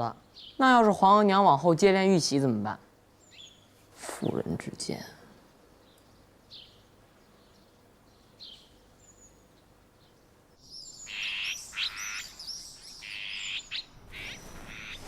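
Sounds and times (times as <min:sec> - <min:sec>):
small songbirds chirping: 0:00.0 - 0:02.4, 0:03.0 - 0:04.7, 0:05.7 - 0:15.0.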